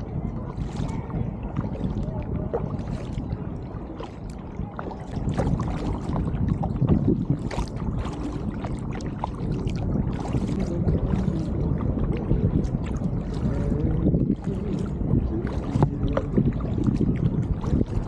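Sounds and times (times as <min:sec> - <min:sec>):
low rumble: 0:00.0 - 0:18.0
paddle splashing in water: 0:00.0 - 0:18.0.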